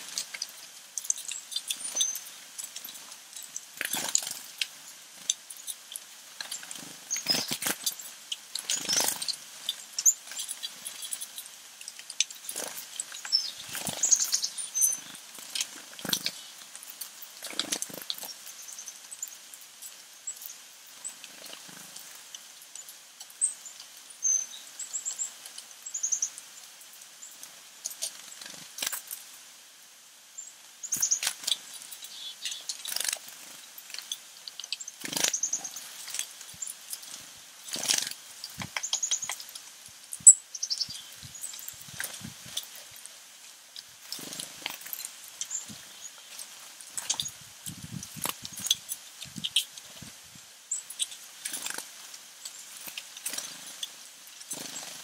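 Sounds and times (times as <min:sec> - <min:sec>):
rustles: 0:00.0 - 0:29.6, 0:30.4 - 0:55.0
songbirds chirping: 0:00.0 - 0:55.0.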